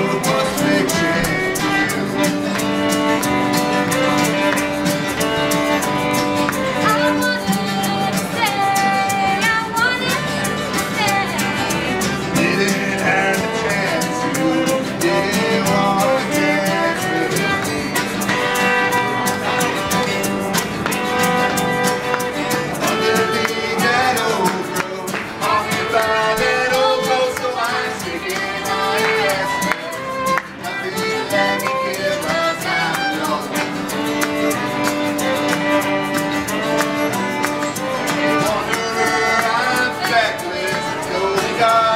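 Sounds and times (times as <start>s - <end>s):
folk band playing: 0.0s - 41.9s
string instrument melody: 0.0s - 41.9s
strummed beat: 0.0s - 41.9s.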